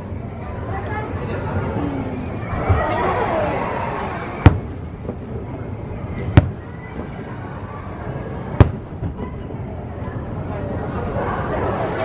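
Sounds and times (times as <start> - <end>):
fireworks booming: 1.1 - 10.8.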